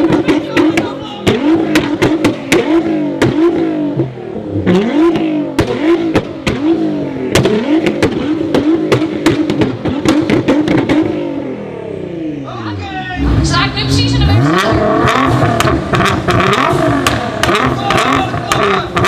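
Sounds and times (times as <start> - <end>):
exhaust cracks: 0.0 - 11.8, 13.1 - 19.0
car engine revving: 0.0 - 19.0.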